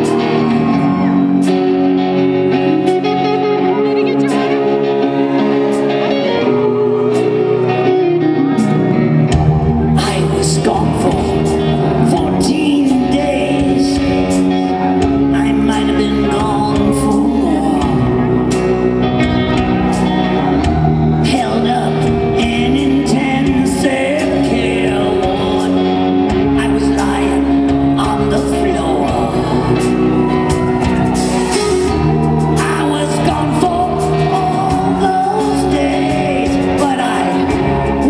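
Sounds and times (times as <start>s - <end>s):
man singing: 0.0s - 8.8s, 9.8s - 38.0s
live rock band: 0.0s - 38.0s
low bass: 0.0s - 38.0s.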